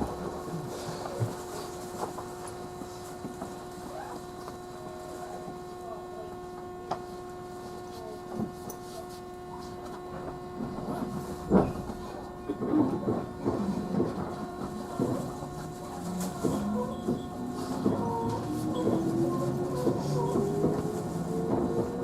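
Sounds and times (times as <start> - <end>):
electrical hum in train car: 0.0 - 22.0.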